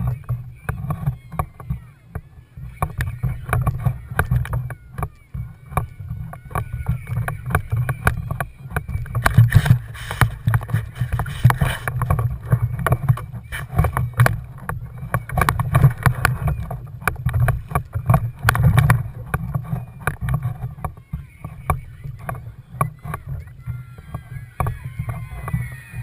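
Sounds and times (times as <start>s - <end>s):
knocks and bumps: 0.0s - 26.0s
water sloshing against hull: 0.0s - 26.0s.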